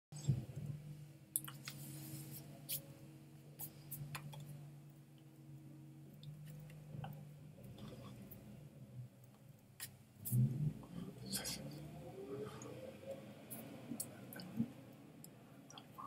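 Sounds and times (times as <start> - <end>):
faint low hum: 0.2 - 16.0.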